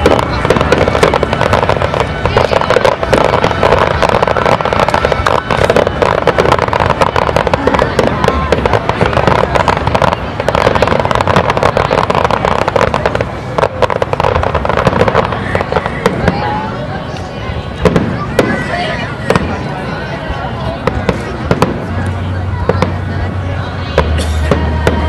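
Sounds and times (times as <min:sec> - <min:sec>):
fireworks bangs: 0:00.0 - 0:25.0
fireworks crackling: 0:00.0 - 0:25.0.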